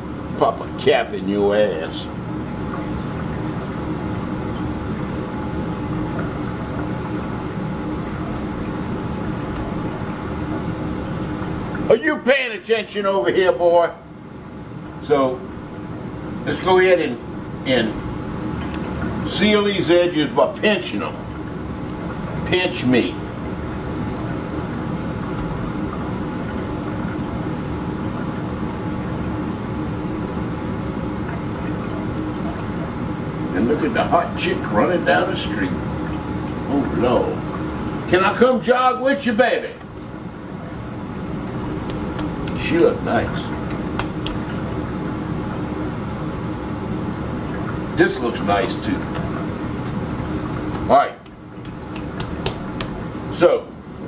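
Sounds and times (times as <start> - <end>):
faint constant tone: 0.0 - 54.0
machine humming: 0.0 - 54.0.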